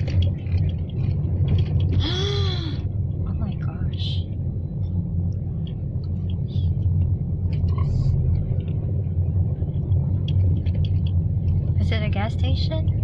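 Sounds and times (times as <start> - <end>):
road rumble inside a car: 0.0 - 13.0.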